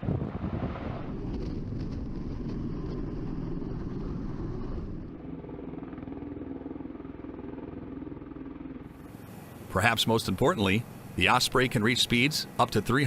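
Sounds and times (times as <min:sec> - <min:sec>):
aircraft engines and rotors droning: 0:00.0 - 0:13.0.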